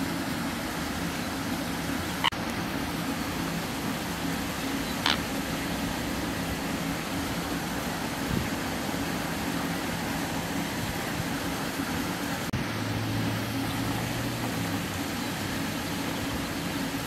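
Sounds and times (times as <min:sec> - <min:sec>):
distant road traffic: 0:00.0 - 0:17.0
low steady drone: 0:00.0 - 0:17.0.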